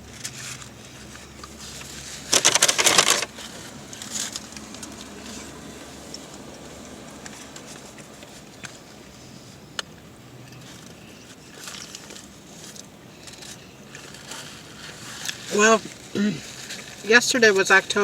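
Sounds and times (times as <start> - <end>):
small clicks and rustles: 0.0 - 18.0
paper packaging crinkling: 0.1 - 9.5, 10.6 - 18.0.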